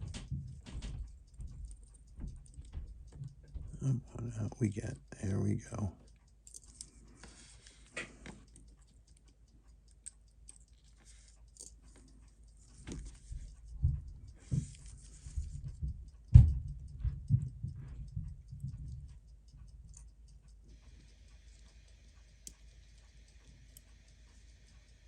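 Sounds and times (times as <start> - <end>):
tweezers and small tools clicking: 0.1 - 25.0.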